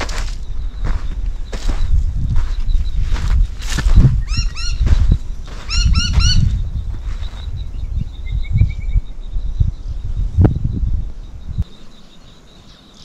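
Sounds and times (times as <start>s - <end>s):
bird chirping and trilling: 0.5s - 13.0s.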